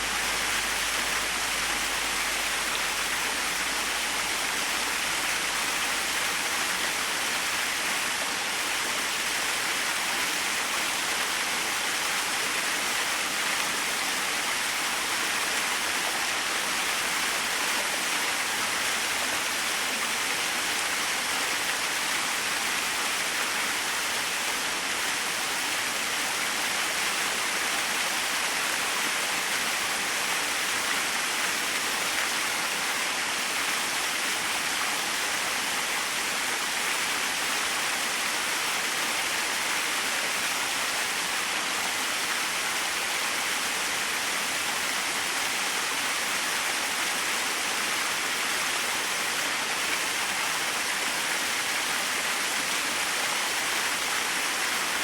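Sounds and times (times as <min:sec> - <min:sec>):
small waterfall splashing: 0:00.0 - 0:55.0.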